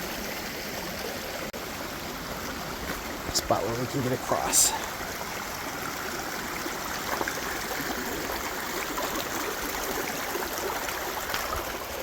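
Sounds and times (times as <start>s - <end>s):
creek flowing: 0.0s - 12.0s.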